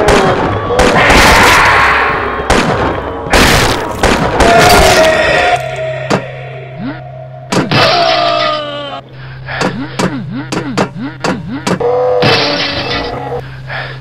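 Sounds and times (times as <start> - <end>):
steady low hum: 2.0 - 14.0.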